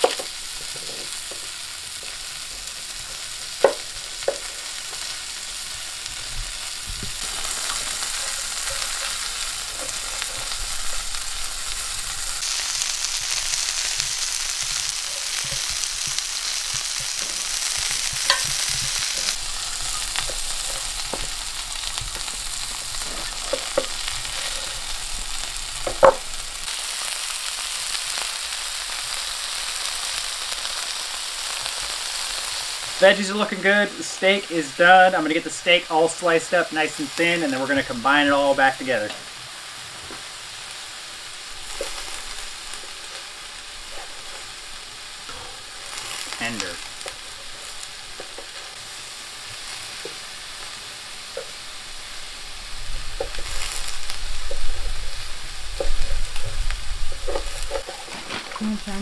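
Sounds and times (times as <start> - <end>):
meat and vegetables sizzling in skillets: 0.0 - 59.0.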